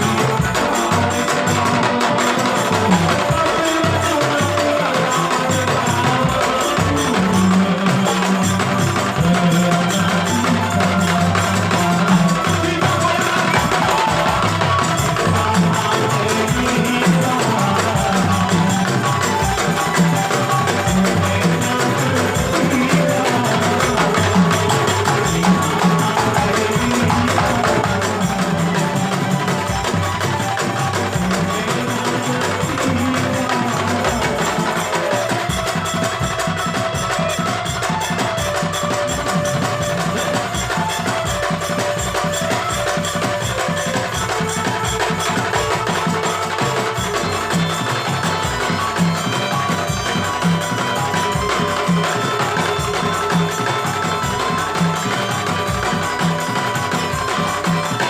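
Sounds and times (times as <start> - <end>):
music with percussion beat: 0.0 - 58.0.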